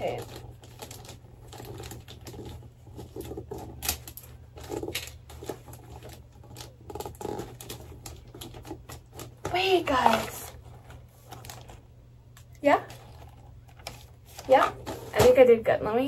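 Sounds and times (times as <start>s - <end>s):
small taps and crackles: 0.0s - 15.4s
wrapping paper rustling: 0.0s - 15.7s.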